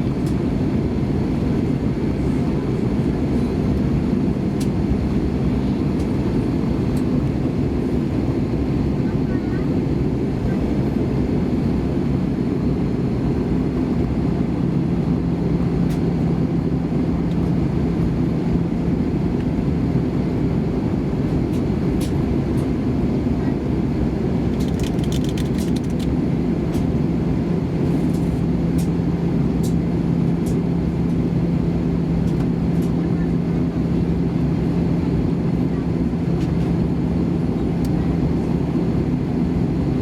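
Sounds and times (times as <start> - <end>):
airplane cabin engine drone: 0.0 - 40.0.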